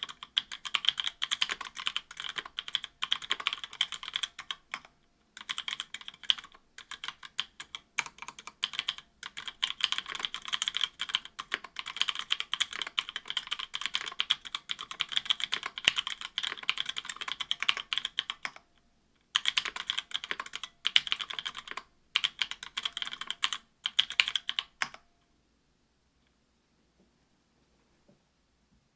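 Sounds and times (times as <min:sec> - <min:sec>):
fast typing on mechanical keyboard: 0:00.0 - 0:18.6, 0:19.4 - 0:25.0.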